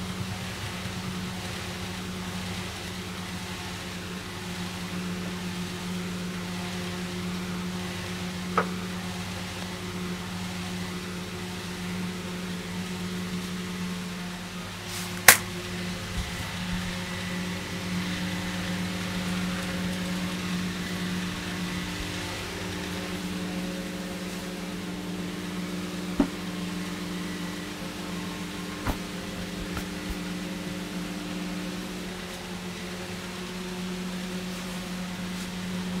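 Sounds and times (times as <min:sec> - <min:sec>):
electric fan humming: 0:00.0 - 0:36.0.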